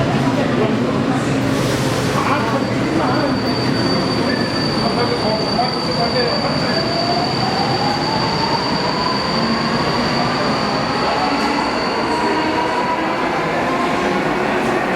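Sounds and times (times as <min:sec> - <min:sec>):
train high-pitched whine: 0:01.6 - 0:14.9.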